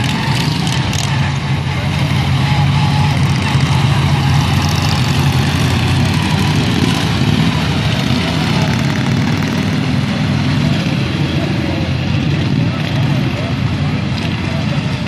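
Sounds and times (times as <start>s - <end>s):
racing lawn tractor engines: 0.0s - 15.0s.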